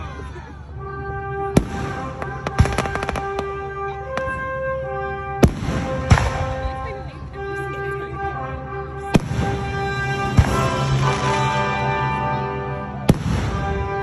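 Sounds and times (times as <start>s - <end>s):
music with held notes: 0.0s - 14.0s.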